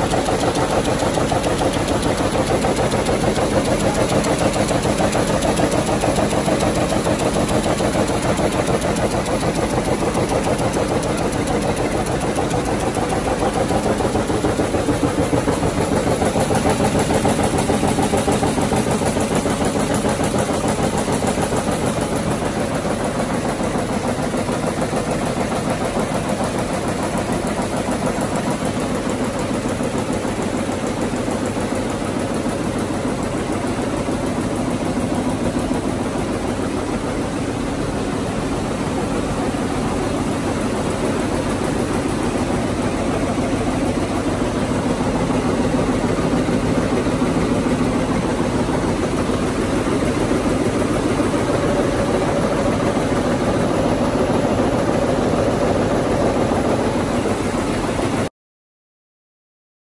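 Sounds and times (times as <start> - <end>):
loom mechanical clatter: 0.0 - 58.3.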